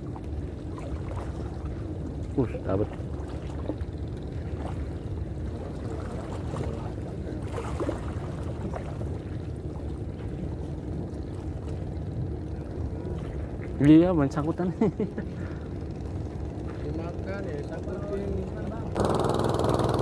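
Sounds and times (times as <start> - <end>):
low shore rumble: 0.0 - 20.0.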